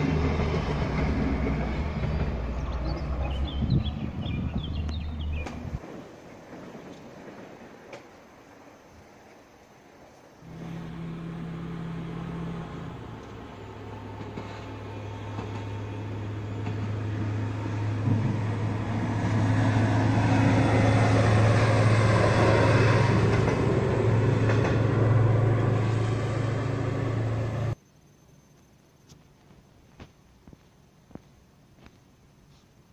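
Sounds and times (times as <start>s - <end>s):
train passing close by: 0.0s - 27.8s
wheel-on-rail noise: 0.0s - 27.8s.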